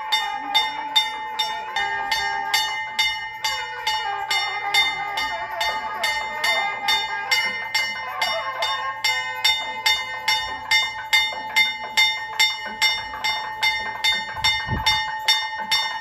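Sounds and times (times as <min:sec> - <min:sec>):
temple bell ringing: 0:00.0 - 0:16.0.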